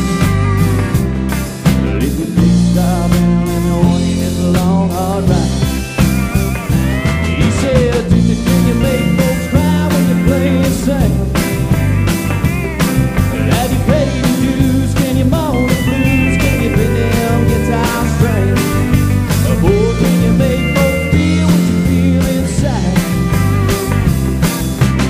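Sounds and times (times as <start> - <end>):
bass guitar: 0.0 - 25.0
drum kit beat: 0.0 - 25.0
electric guitar lead with bent notes: 0.0 - 25.0.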